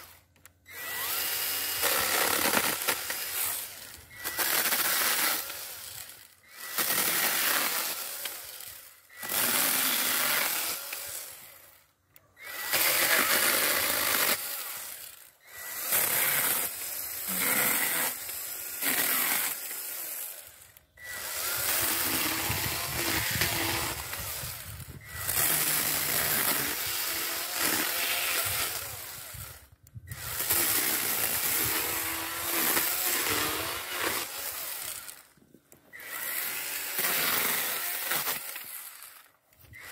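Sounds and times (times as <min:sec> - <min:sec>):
chainsaw cutting branches: 0:00.0 - 0:39.9.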